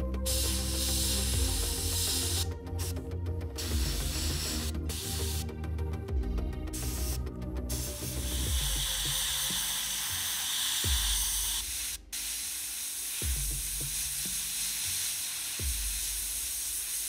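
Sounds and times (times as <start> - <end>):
airbrush hissing: 0.0 - 5.7, 6.6 - 17.0
music with a slow low beat: 0.0 - 17.0.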